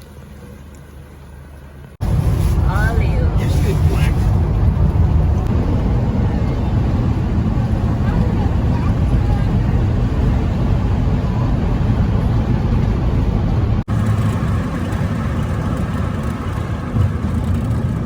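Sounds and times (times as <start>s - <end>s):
vehicle moving low noise: 0.0s - 18.0s.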